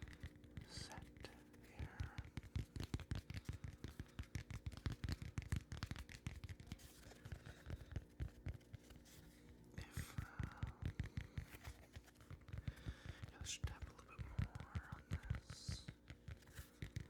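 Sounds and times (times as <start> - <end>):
light tapping and scratching: 0.0 - 17.0.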